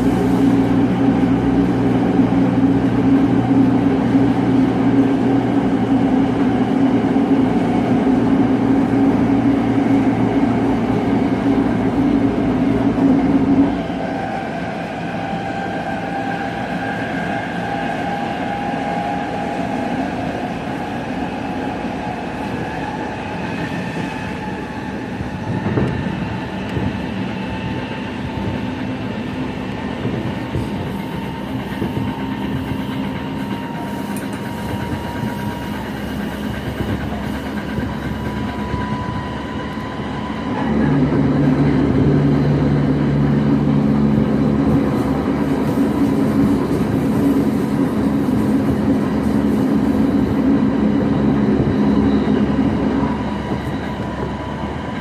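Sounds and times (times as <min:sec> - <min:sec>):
train motor hum: 0:00.0 - 0:55.0
wheels on rails: 0:00.0 - 0:55.0.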